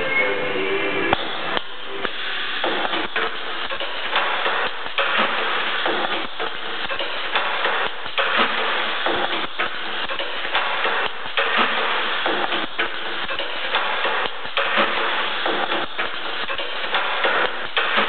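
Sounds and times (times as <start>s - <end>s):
air hissing: 0.0s - 18.0s
air cylinders clacking: 1.1s - 18.0s.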